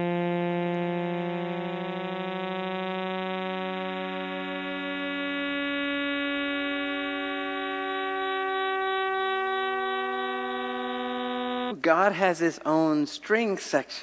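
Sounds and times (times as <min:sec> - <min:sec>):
chord of held tones: 0:00.0 - 0:13.0.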